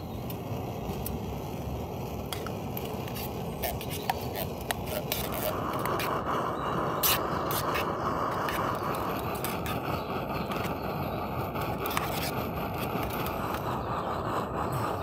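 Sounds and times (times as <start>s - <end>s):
petrol stove rushing: 0.1s - 15.0s.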